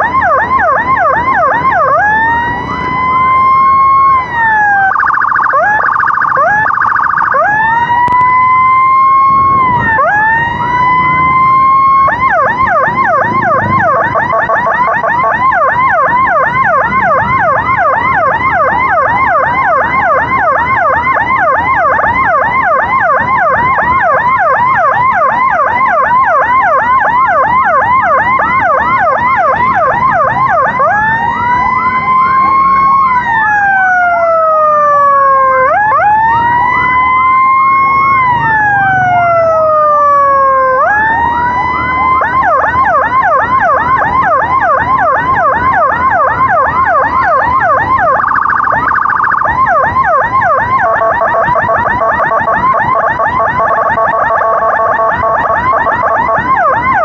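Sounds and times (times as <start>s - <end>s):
electronic emergency siren: 0.0s - 57.0s
road and traffic noise: 0.0s - 57.0s.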